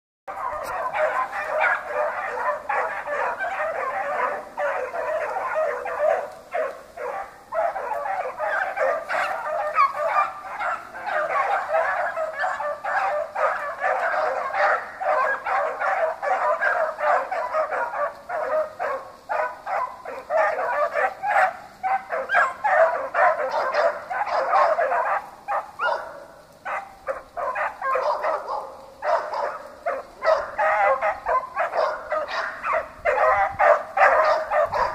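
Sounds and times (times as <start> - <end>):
dogs barking: 0.3 - 34.9.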